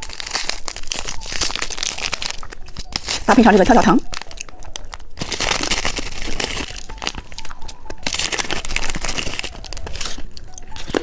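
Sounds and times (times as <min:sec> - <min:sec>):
crunching candy: 0:00.0 - 0:11.0
popping candy crackling: 0:00.0 - 0:11.0.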